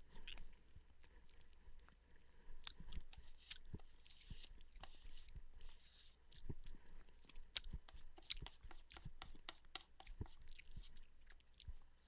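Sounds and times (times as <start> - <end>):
person chewing and crunching food: 0.0 - 12.0.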